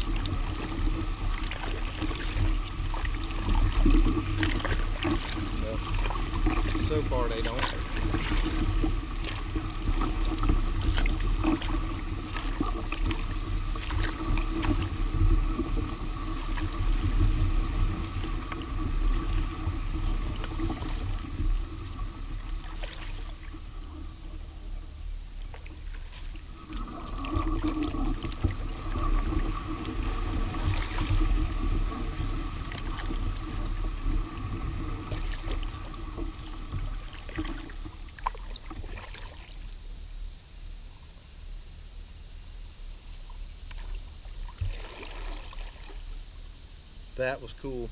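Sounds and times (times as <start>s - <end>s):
water splashing: 0.0s - 39.9s, 43.2s - 46.2s
kayak paddle strokes: 0.0s - 40.0s, 43.1s - 47.9s
low rumble through hull: 0.0s - 47.9s.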